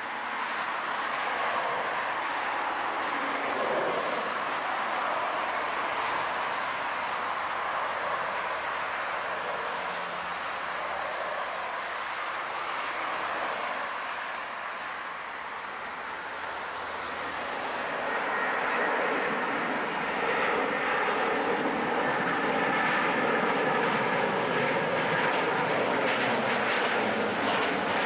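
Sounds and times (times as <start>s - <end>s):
jet engine whine: 0.0s - 28.0s
jet engines rushing: 0.0s - 28.0s.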